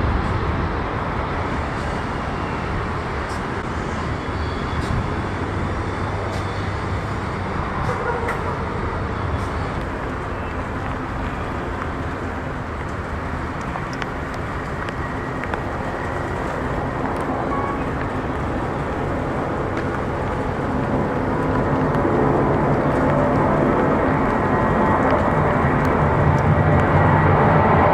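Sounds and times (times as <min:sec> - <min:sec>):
engine rumble: 0:00.0 - 0:27.9
traffic noise: 0:00.0 - 0:27.9.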